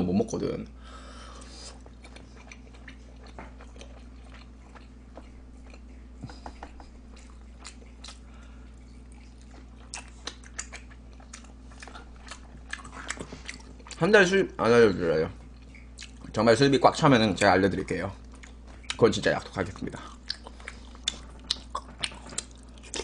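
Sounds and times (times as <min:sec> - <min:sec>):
low electrical hum: 0:00.0 - 0:23.0
person chewing with wet smacks: 0:01.4 - 0:14.3, 0:15.3 - 0:23.0.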